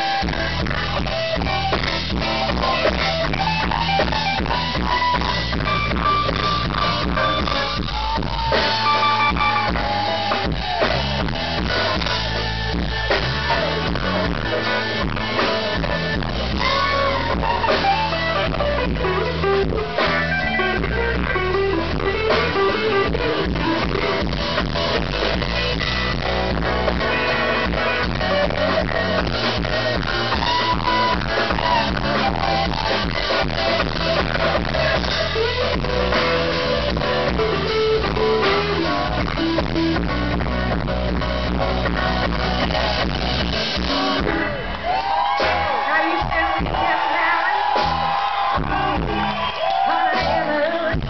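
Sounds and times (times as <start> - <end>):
electric guitar solo: 0.0 - 51.0
steady drum beat: 0.0 - 51.0.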